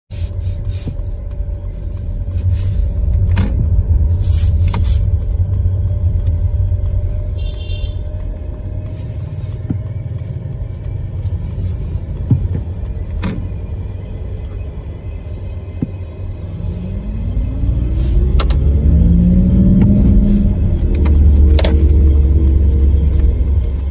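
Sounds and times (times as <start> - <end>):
electric car synthetic driving hum: 0.1 - 23.9.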